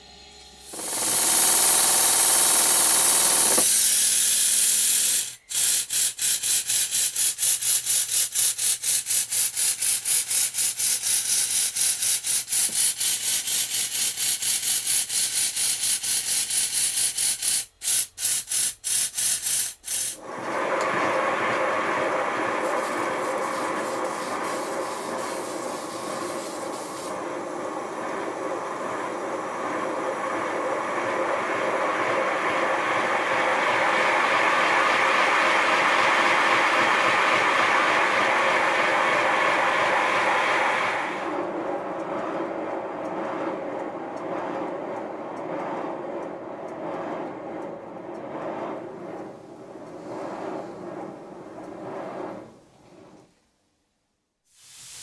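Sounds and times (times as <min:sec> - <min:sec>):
steam hissing: 0:00.0 - 0:44.3, 0:54.5 - 0:55.0
model steam engine running: 0:00.0 - 0:48.3.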